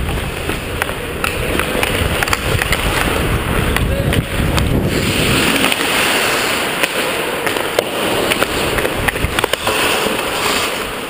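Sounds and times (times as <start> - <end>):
hockey sticks and puck clacking: 0.0 - 11.0
skates scraping on ice: 0.0 - 11.0.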